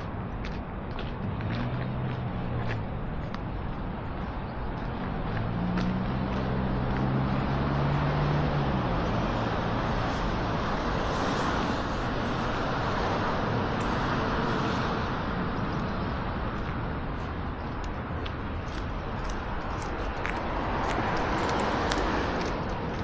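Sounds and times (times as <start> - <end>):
passing traffic rushing: 0.0 - 23.0
vehicle engine hum: 0.0 - 23.0.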